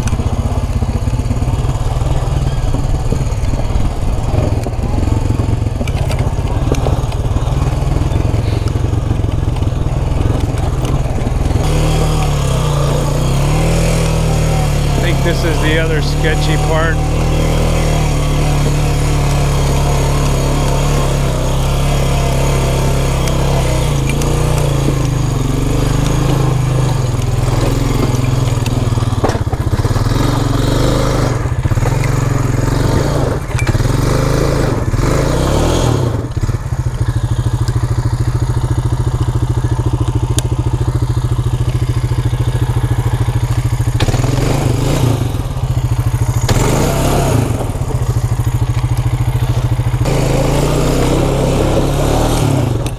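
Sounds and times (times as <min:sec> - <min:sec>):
vehicle engine running: 0:00.0 - 0:52.9.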